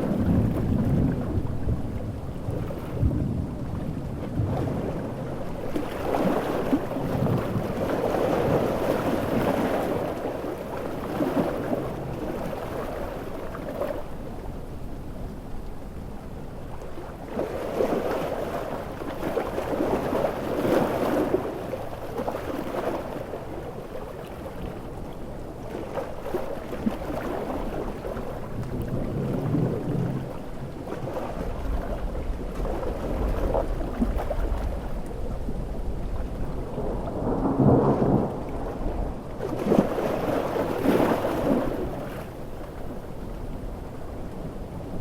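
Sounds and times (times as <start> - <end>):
ocean waves breaking: 0.0 - 15.0, 16.5 - 45.0.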